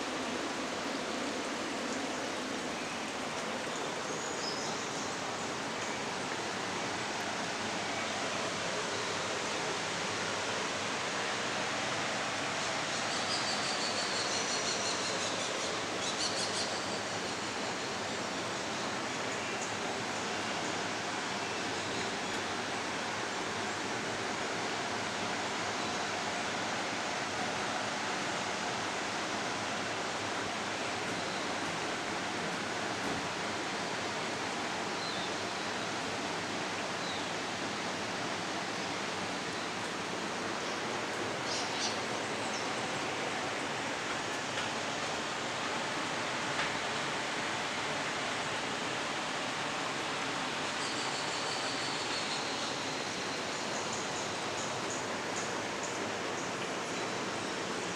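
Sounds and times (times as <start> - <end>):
flowing water: 0.0 - 57.9.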